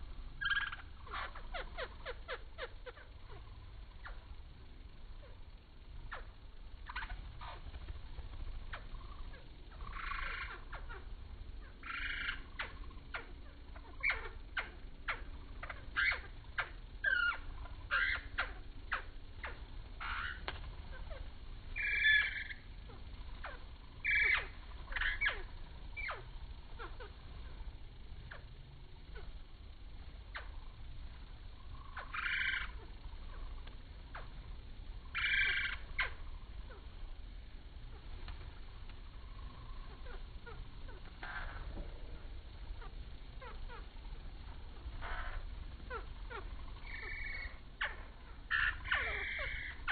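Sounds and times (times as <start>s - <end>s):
low steady rumble: 0.0s - 49.9s
slowed hummingbird chirps: 0.0s - 49.9s.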